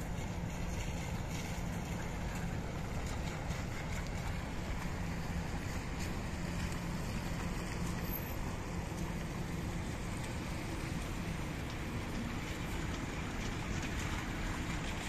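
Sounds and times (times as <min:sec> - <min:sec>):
slow-moving cars: 0:00.0 - 0:15.0
street ambience rumble and hiss: 0:00.0 - 0:15.0.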